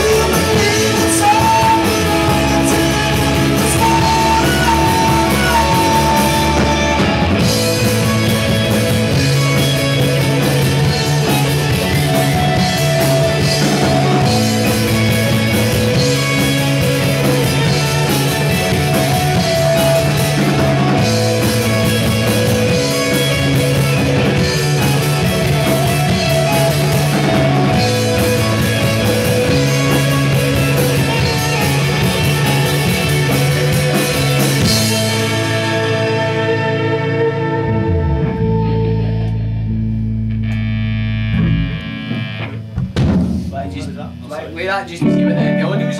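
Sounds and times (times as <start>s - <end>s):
bass line: 0.0s - 45.9s
rock band playing live: 0.0s - 45.9s.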